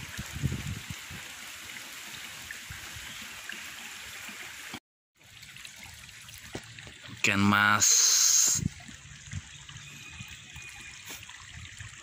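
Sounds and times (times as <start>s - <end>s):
running water: 0.0s - 12.0s
small water splashes: 0.0s - 12.0s.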